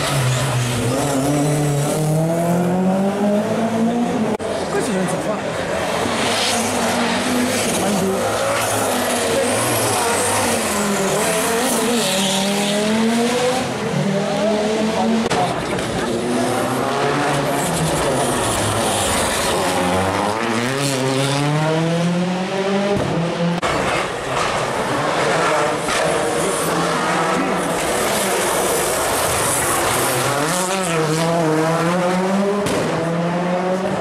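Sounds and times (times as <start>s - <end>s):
tyres skidding and squealing: 0.0s - 21.9s, 23.4s - 33.1s
rally car engine revving: 0.0s - 34.0s.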